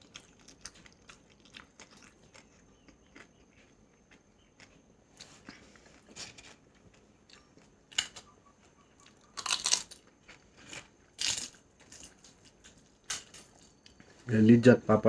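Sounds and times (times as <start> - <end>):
quiet chewing: 0.0 - 14.3.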